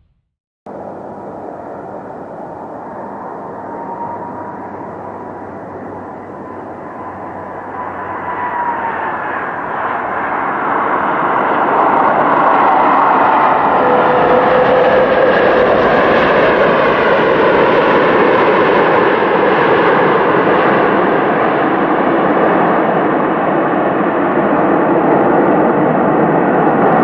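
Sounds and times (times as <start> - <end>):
airplane engine whining rush: 0.7 - 27.0.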